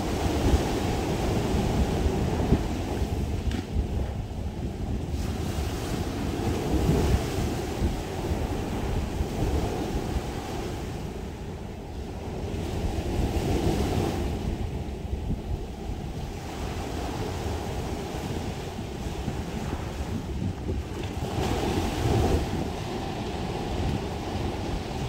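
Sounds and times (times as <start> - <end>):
waves washing up a beach: 0.0 - 25.0
wind rumble on microphone: 0.0 - 25.0.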